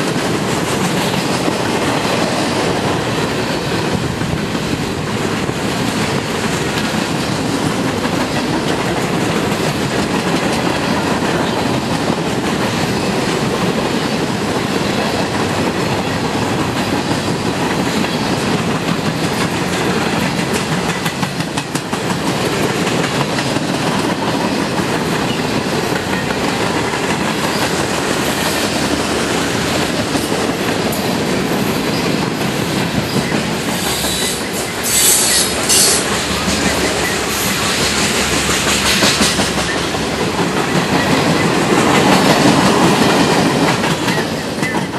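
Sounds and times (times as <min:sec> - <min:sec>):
train wheels clattering on rails: 0:00.0 - 0:44.9.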